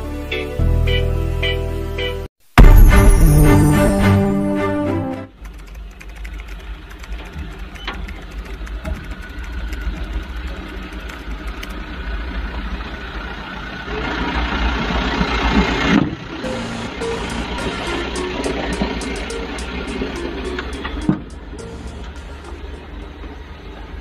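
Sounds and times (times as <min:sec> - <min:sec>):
diesel truck engine rumbling: 0:03.1 - 0:24.0.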